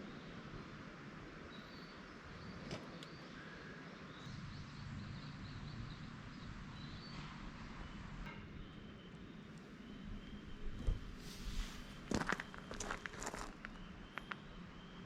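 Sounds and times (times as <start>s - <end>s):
bird chirps: 1.6s - 15.0s.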